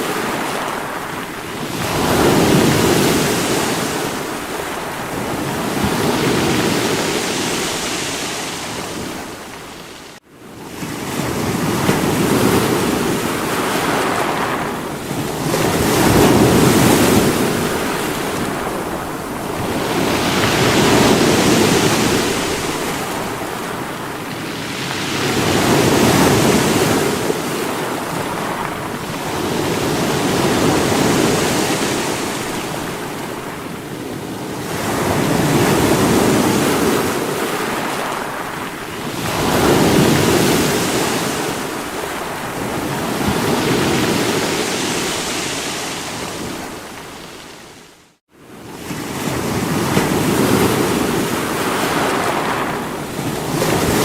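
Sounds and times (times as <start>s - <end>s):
waves breaking on rocks: 0.0s - 47.9s, 48.7s - 54.0s.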